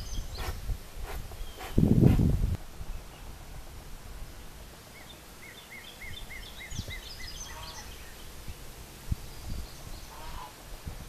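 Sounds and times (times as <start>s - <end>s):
songbird singing: 0.0s - 3.6s, 4.2s - 10.7s.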